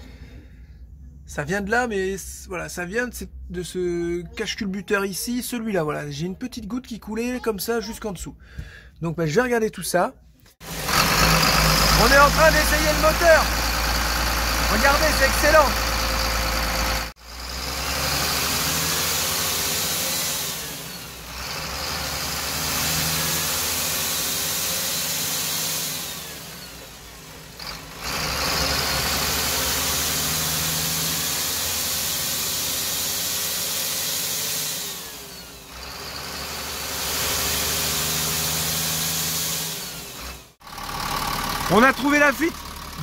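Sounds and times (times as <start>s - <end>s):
diesel bus engine running: 0.0s - 4.4s, 10.6s - 43.0s.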